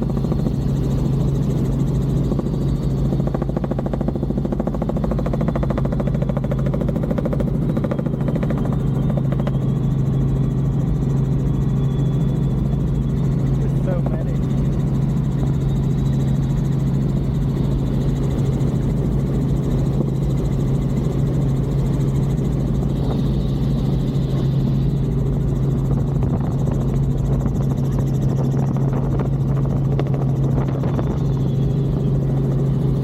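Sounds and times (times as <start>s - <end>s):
helicopter rotor drone: 0.0s - 33.0s.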